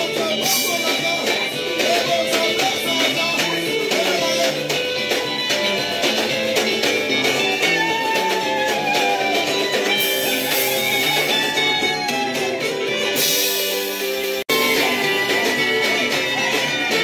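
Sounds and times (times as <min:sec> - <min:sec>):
band playing: 0:00.0 - 0:17.0
plucked guitar melody: 0:00.0 - 0:17.0.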